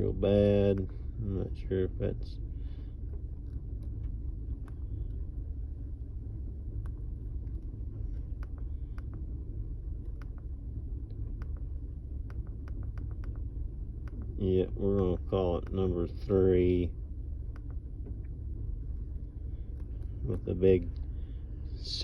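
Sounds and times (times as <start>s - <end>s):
engine idling rough with ticks: 0.0s - 22.0s.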